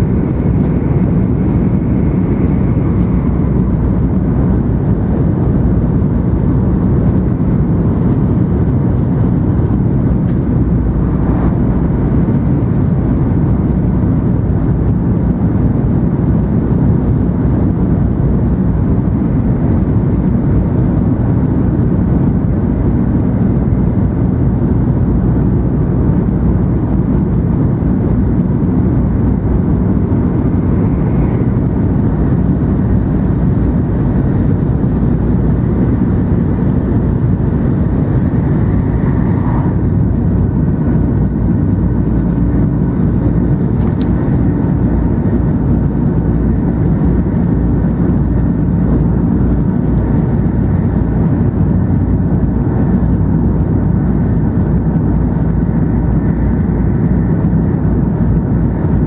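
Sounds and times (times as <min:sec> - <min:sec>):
train cabin low rumble: 0:00.0 - 0:59.0.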